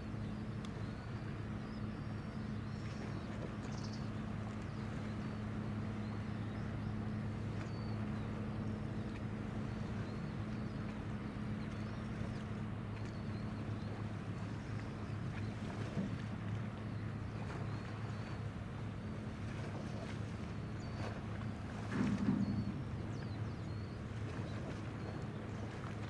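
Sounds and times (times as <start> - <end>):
ship diesel engines droning: 0.0 - 26.0.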